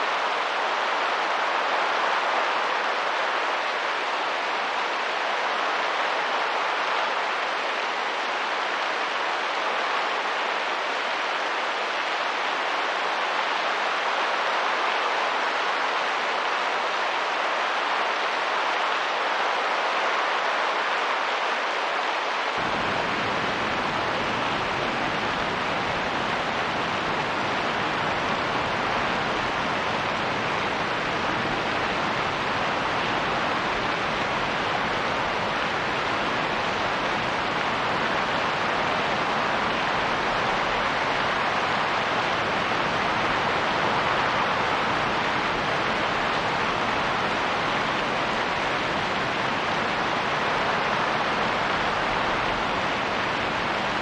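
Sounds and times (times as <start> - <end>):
rain and wind hissing: 0.0 - 54.0.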